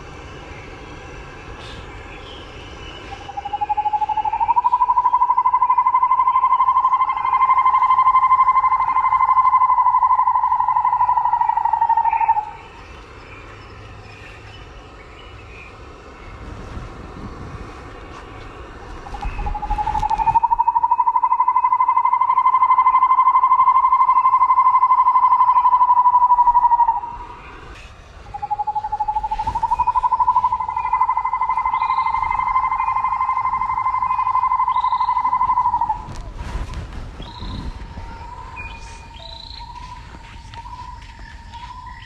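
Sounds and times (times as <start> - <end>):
trilling drone: 0.0 - 42.0.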